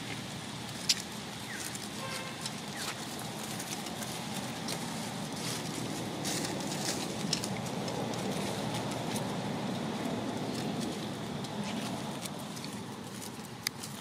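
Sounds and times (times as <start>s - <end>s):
dry leaves crackling underfoot: 0.0s - 14.0s
low background noise: 0.0s - 14.0s.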